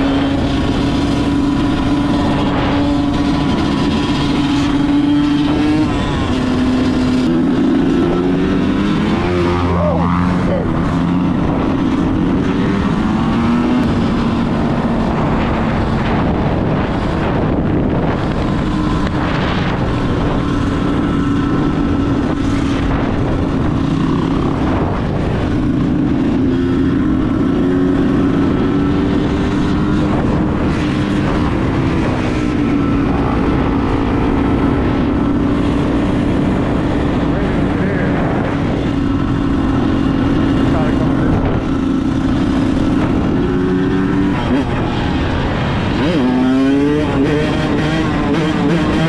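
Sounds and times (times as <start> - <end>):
dirt bike engine running: 0.0 - 49.0
wind noise on microphone: 0.0 - 49.0.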